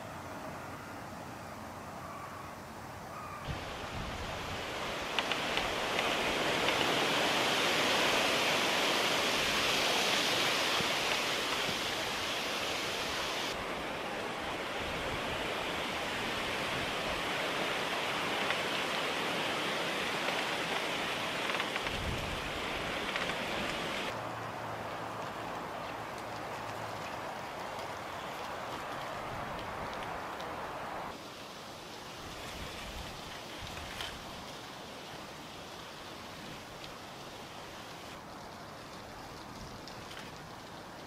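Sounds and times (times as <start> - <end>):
wind rustling dry leaves: 0.0 - 41.0.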